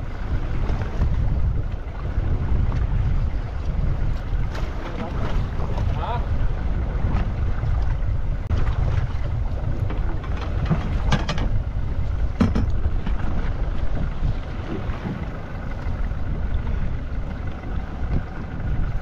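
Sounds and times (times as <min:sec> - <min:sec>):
sea against a boat: 0:00.0 - 0:19.0
wind rumbling on microphone: 0:00.0 - 0:19.0.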